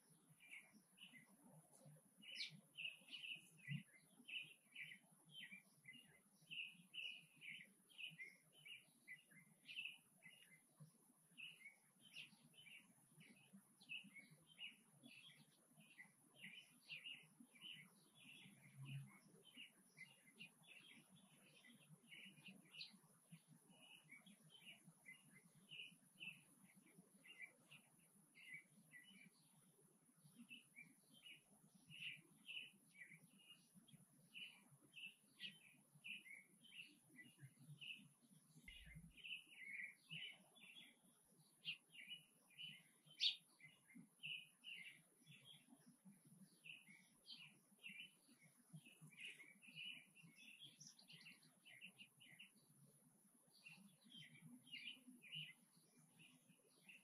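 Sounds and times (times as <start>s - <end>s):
faint bird chirping: 0.0s - 57.0s.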